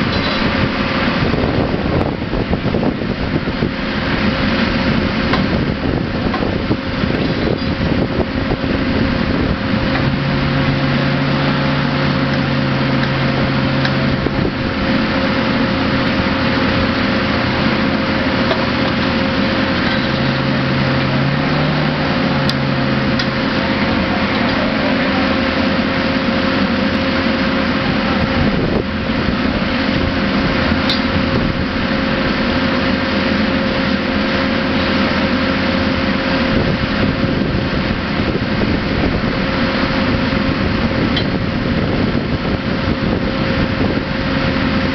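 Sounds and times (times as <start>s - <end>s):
constant hum: 0.0s - 44.9s
truck engine running: 0.0s - 44.9s.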